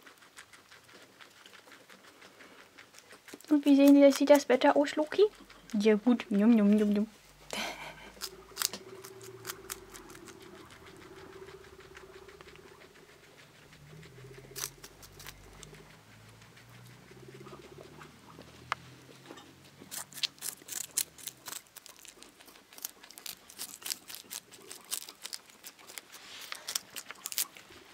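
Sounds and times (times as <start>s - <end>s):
guinea pigs chewing leaves: 0.0s - 27.9s
low steady hum: 2.6s - 27.9s.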